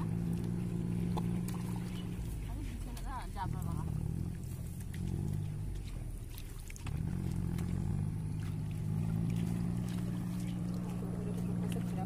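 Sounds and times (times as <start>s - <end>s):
low motor drone: 0.0s - 12.0s
water splashes: 0.0s - 12.0s.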